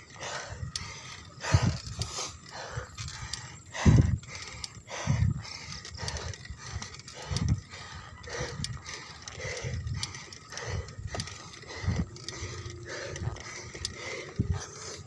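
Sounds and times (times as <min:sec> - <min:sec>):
bike clicking: 0:00.0 - 0:15.0
hard laboured breathing: 0:00.0 - 0:15.0.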